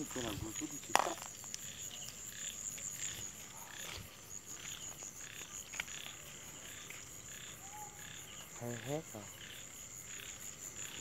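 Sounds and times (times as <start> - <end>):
frogs croaking: 0.0 - 11.0
high-pitched insect trill: 0.0 - 11.0.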